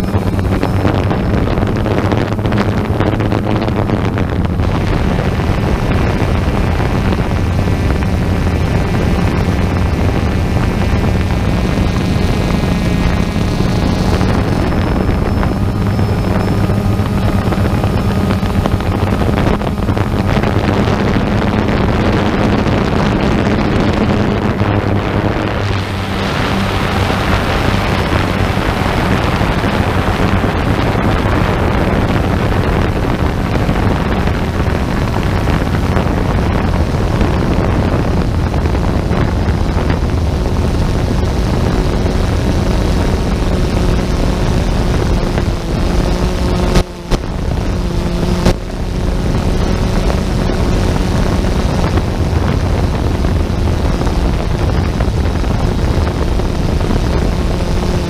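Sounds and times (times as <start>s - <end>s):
drone motors humming: 0.0s - 58.0s
wind on microphone: 0.0s - 58.0s.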